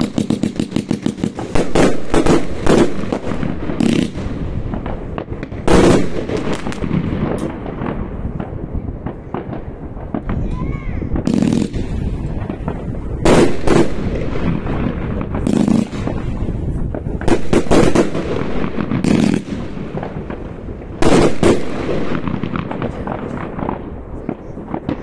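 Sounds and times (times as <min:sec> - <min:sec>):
fireworks crackling and popping: 0:00.0 - 0:25.0
loud firework bangs: 0:00.0 - 0:25.0.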